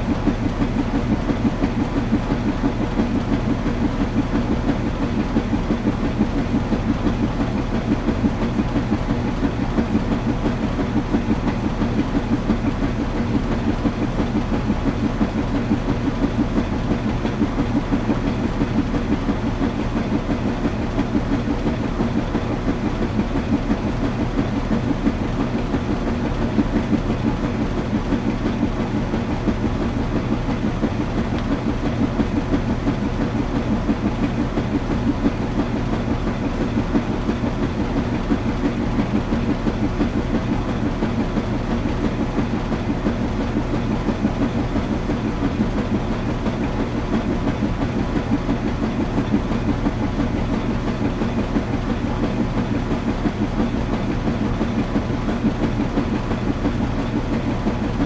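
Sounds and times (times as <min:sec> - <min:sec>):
washing machine drum churning: 0:00.0 - 0:58.0.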